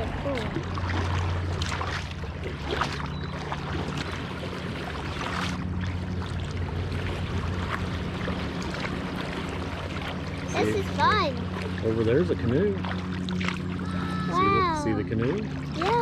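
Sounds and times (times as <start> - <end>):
paddle splashing water: 0.0 - 16.0
steady low hum: 0.0 - 16.0.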